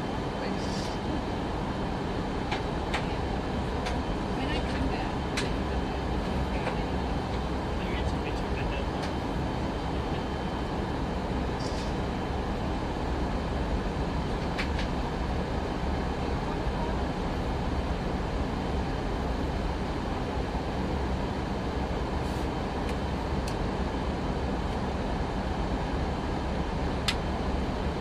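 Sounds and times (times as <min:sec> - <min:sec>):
airplane cabin noise: 0:00.0 - 0:28.0.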